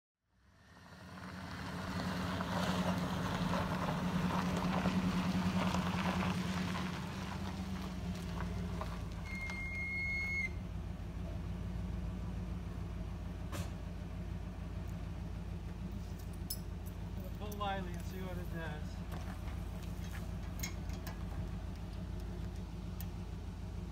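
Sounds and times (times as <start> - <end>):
truck engine idling: 0.4 - 23.9.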